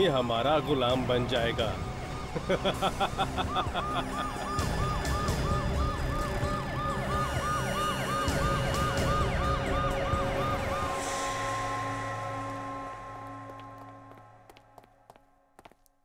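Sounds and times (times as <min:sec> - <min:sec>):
ambulance siren yelping: 0:00.2 - 0:13.8.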